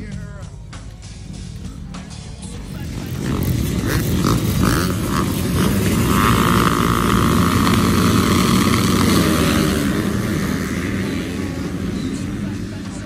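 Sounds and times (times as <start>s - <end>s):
dirt bikes revving: 1.2s - 13.0s.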